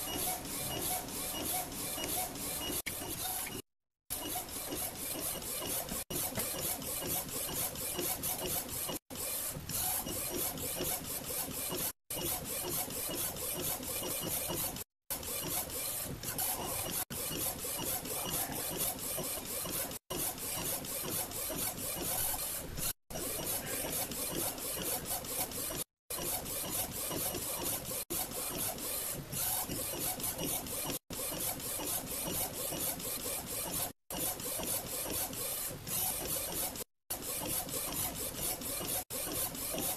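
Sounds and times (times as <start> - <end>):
printer carriage whirring: 0.0 - 39.9.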